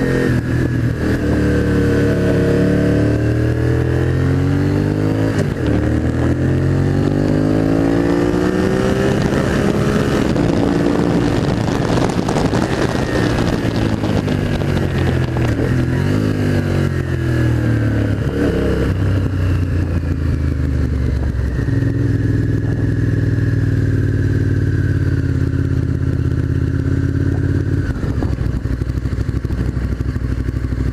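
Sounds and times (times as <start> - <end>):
motorcycle engine revving: 0.0 - 30.9
wind noise: 0.0 - 30.9.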